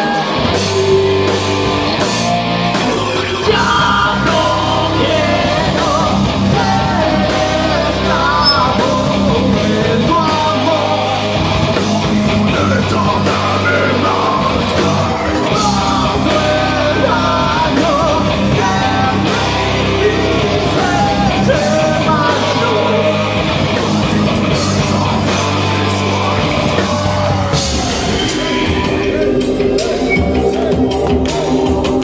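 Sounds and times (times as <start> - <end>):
live rock band playing: 0.0 - 32.0
person singing: 2.7 - 32.0.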